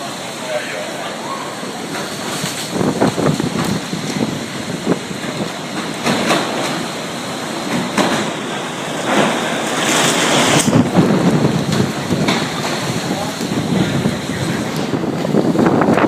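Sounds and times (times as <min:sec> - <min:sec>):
storm wind rushing: 0:01.1 - 0:16.0.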